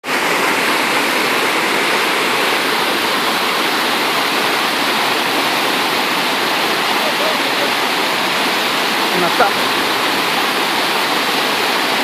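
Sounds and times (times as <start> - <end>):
loud rushing water: 0.0 - 12.0.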